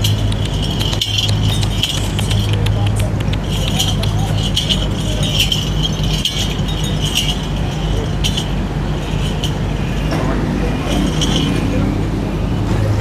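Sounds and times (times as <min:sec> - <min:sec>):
small metal bells and chains jingling: 0:00.0 - 0:12.7
steady low hum: 0:00.0 - 0:13.0.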